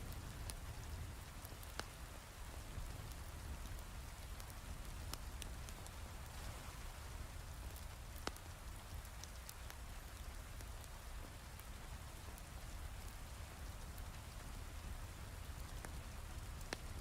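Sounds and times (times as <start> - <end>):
wood fire crackling pops: 0.0 - 6.4, 7.4 - 17.0
heavy rain hiss: 0.0 - 17.0.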